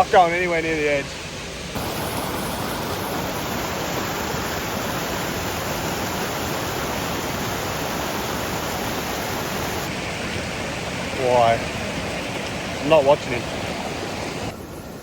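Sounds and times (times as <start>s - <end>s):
waterfall roaring: 1.8s - 15.0s.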